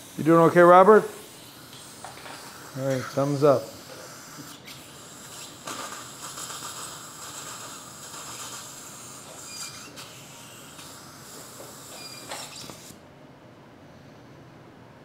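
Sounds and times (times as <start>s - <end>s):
dental handpiece drilling: 0.0s - 13.0s
dental suction hissing: 0.0s - 13.0s.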